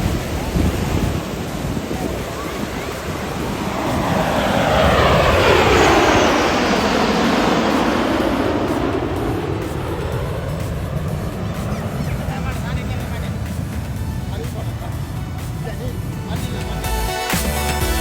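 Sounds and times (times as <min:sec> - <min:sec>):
wind rumble on microphone: 0:00.0 - 0:16.8
airplane flying past: 0:00.0 - 0:18.0.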